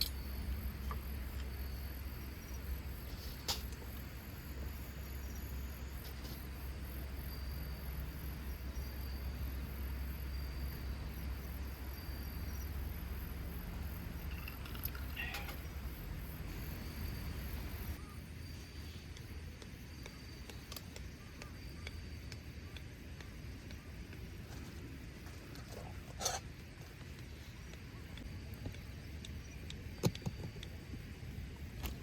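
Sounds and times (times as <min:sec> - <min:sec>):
insects chirping: 0:00.0 - 0:26.4.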